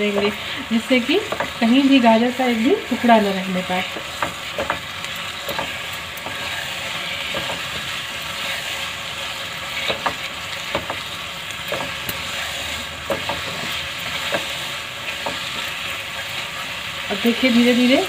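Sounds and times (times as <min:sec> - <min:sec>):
spatula scraping and tapping pan: 0:00.0 - 0:03.0, 0:03.7 - 0:17.7
food sizzling in a pan: 0:00.0 - 0:18.0.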